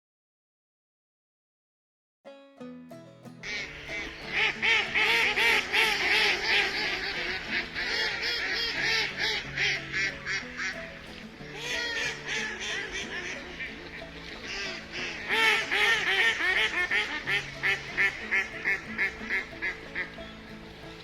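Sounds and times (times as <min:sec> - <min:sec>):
short musical notes: 0:02.3 - 0:21.0
ducks quacking: 0:03.4 - 0:21.0.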